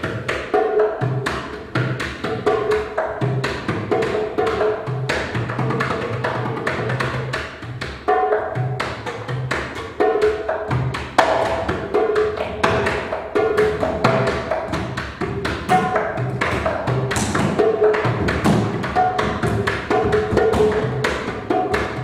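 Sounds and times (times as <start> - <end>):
hand percussion strikes: 0.0 - 22.0.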